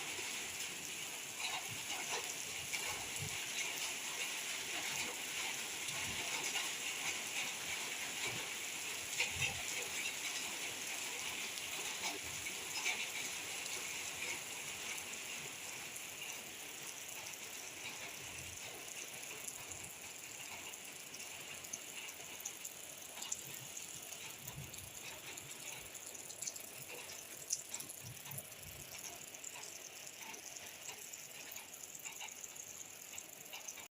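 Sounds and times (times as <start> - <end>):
drips and ticks: 0.0 - 33.9
steady rain falling: 0.0 - 33.9.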